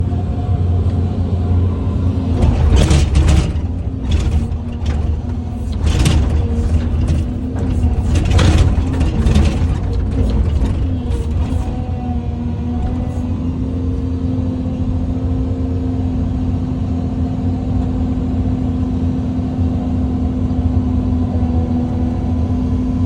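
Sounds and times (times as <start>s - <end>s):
excavator diesel engine running: 0.0s - 19.5s.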